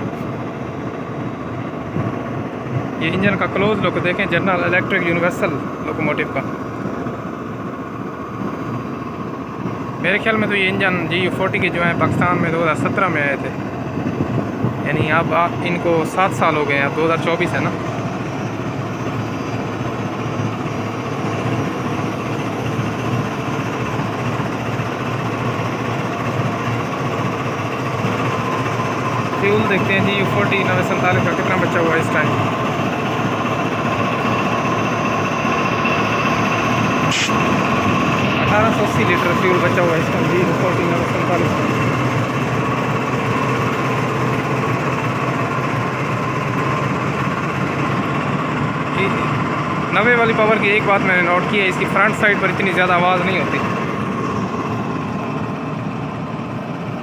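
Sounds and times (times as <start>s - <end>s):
diesel locomotive engine idling: 0.0s - 57.0s
steady high whine: 0.0s - 57.0s.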